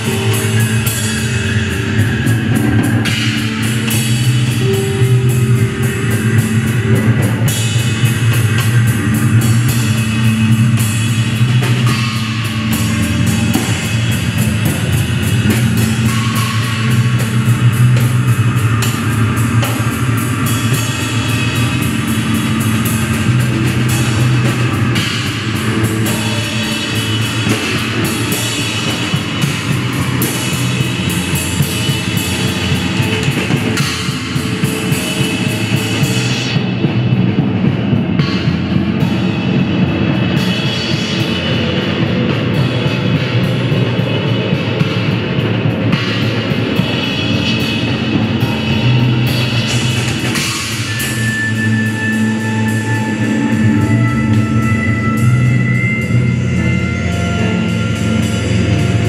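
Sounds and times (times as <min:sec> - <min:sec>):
drum kit with cymbals: 0:00.0 - 0:59.0
electric bass: 0:00.0 - 0:59.0.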